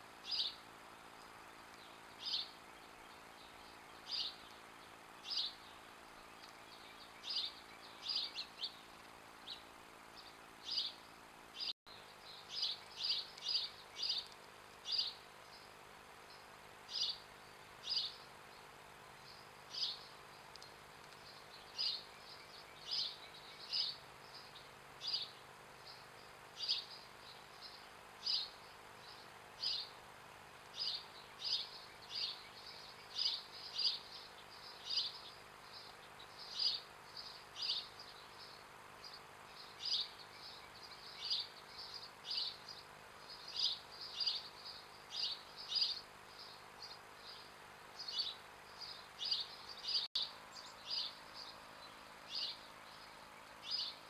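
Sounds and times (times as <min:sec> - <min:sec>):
faint outdoor background noise: 0:00.0 - 0:54.0
small bird chirping: 0:00.2 - 0:54.0.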